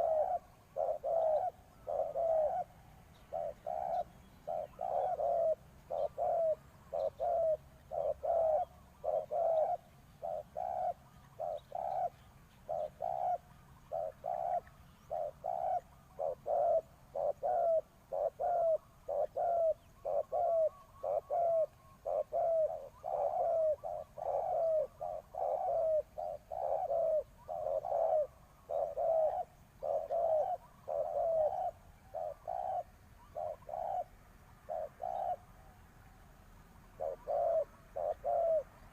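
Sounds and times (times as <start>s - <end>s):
dove cooing: 0.0s - 35.8s, 36.8s - 38.9s.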